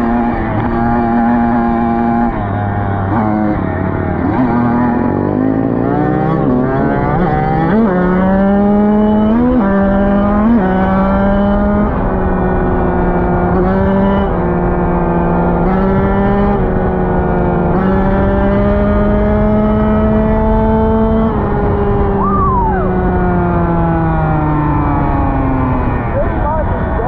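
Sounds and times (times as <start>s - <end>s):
dirt bike engine accelerating: 0.0s - 27.0s.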